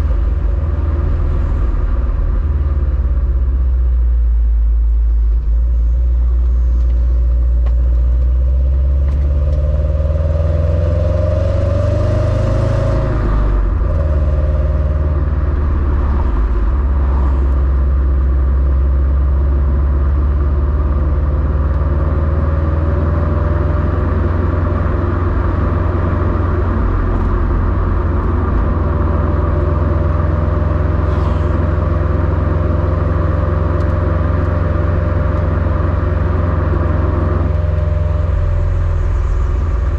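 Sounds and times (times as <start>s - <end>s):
car exhaust rumbling: 0.0s - 39.9s
road noise: 0.0s - 39.9s.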